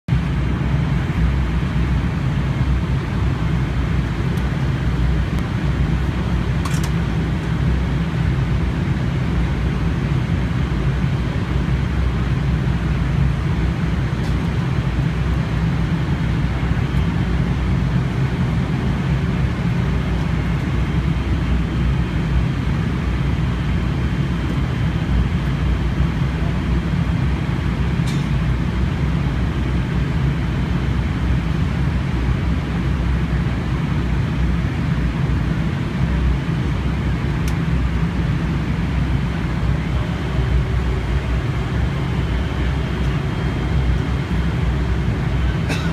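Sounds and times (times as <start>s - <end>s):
airliner cabin drone: 0.1s - 45.9s.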